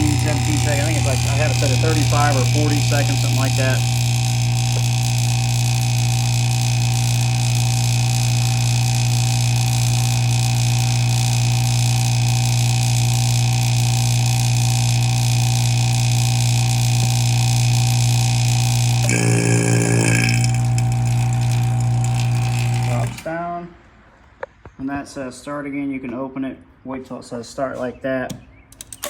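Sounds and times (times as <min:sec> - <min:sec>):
vacuum pump humming: 0:00.0 - 0:23.3.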